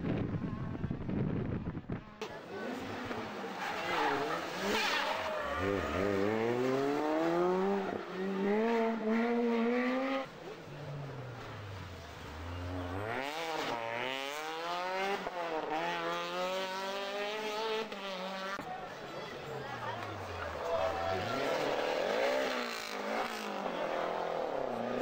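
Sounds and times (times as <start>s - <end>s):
rally car engines accelerating: 2.0s - 25.0s.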